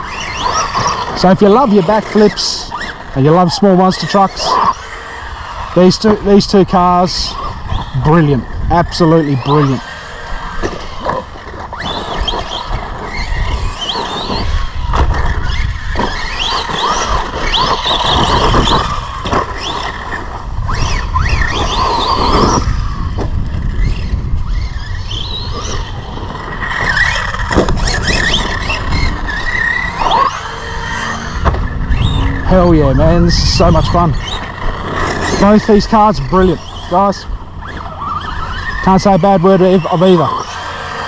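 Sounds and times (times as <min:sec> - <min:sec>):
electric motor whining: 0:00.0 - 0:41.0.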